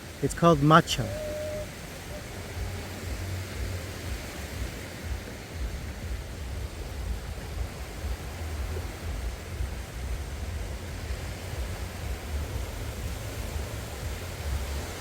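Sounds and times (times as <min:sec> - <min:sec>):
gentle surf: 0:00.0 - 0:15.0
wind: 0:00.0 - 0:15.0
wind rumble on microphone: 0:00.0 - 0:15.0.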